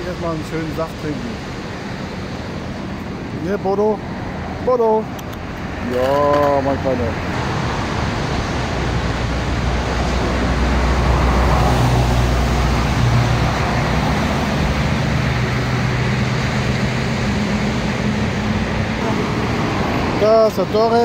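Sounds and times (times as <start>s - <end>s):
sea surf washing onto beach: 0.0s - 21.0s
vehicle engine humming: 0.0s - 21.0s.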